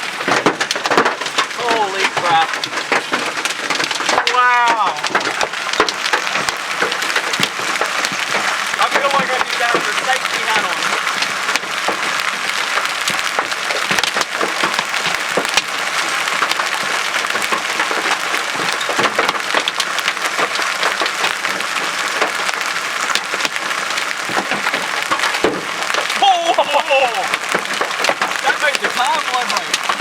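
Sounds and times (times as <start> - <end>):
hailstones hammering a car: 0.0 - 30.0.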